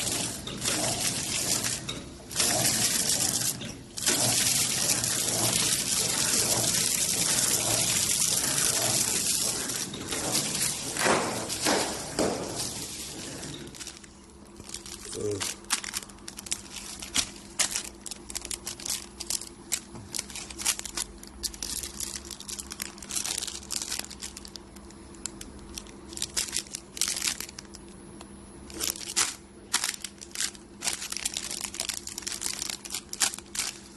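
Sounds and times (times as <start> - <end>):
plastic film crinkling: 0.0 - 28.0, 28.6 - 33.9.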